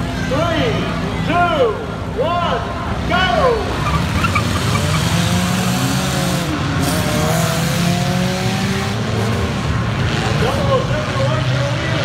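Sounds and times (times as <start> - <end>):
many car engines droning: 0.0 - 12.0.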